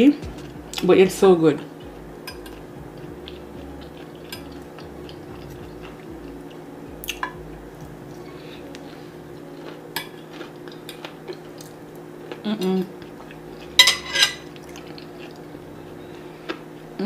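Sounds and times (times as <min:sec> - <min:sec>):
steady low hum: 0:00.0 - 0:17.0
person chewing food: 0:02.3 - 0:13.8, 0:14.4 - 0:16.8.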